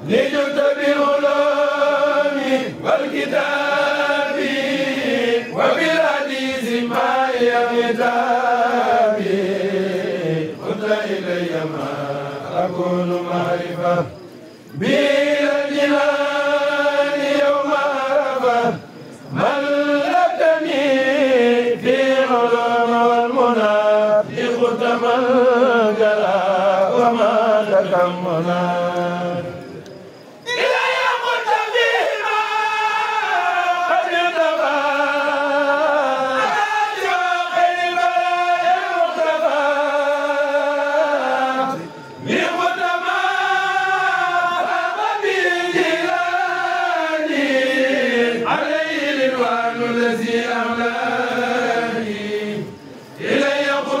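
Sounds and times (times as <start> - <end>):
men chanting together: 0.0 - 14.2, 14.8 - 29.6, 30.5 - 54.0.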